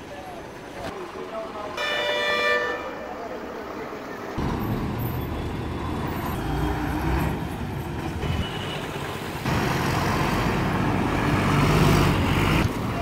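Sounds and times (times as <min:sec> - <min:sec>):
bus diesel engines rumbling: 0:00.0 - 0:13.0.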